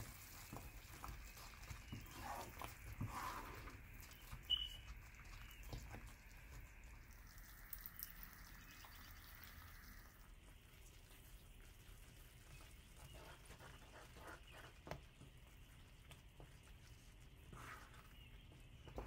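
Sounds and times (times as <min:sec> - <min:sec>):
faint sizzling in pan: 0:00.0 - 0:19.0.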